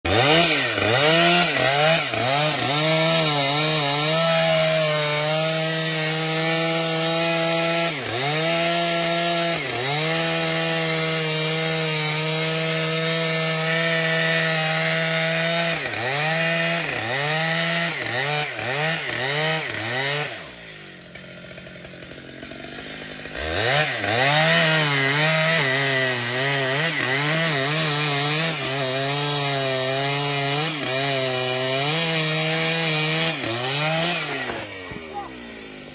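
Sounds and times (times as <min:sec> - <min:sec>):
chainsaw cutting wood: 0:00.0 - 0:35.9.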